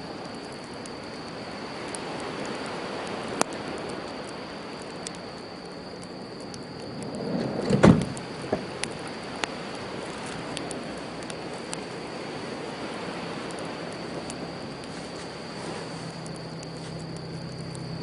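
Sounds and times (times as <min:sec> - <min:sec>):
campfire crackling and popping: 0:00.0 - 0:18.0
sea waves: 0:00.0 - 0:18.0.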